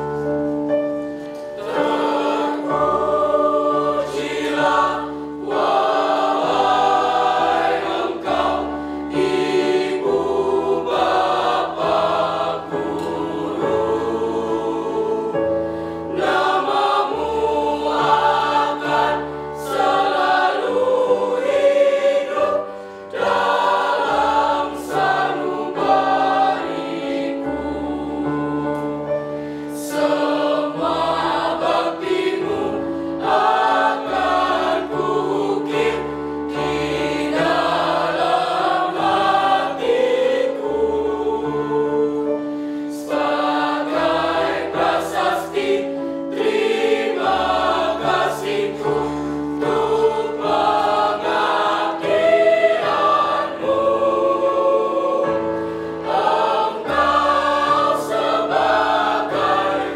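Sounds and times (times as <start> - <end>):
mixed choir singing in harmony: 0.0 - 59.9.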